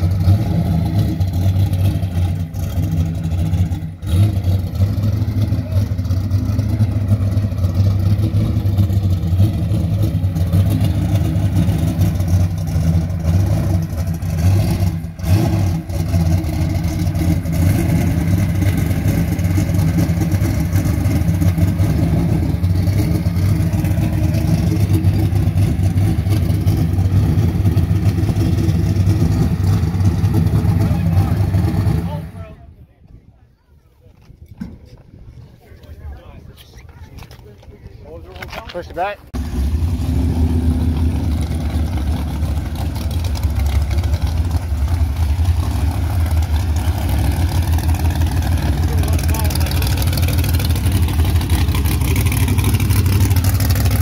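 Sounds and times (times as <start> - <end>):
car engine idling loudly: 0.0 - 32.5, 39.0 - 54.0.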